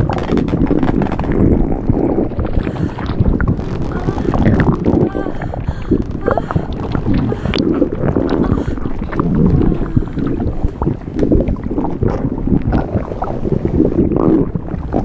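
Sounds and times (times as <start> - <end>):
low churning rumble: 0.0 - 15.0.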